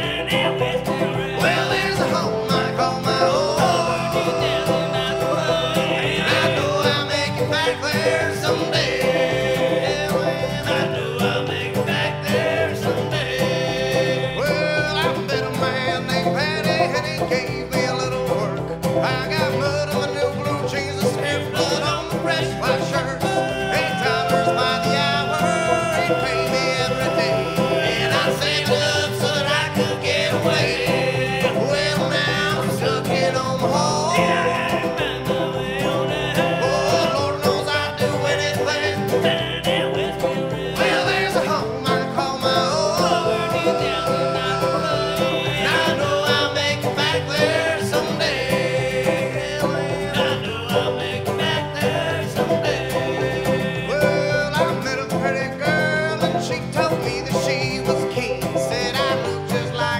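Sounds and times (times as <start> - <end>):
bluegrass band music: 0.0 - 59.9.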